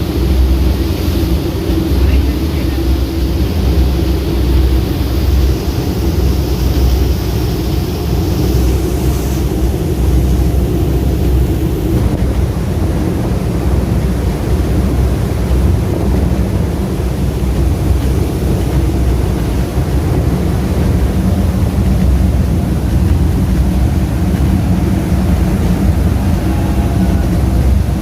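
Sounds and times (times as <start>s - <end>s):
boat engines droning: 0.0s - 28.0s
wind and water rushing: 0.0s - 28.0s.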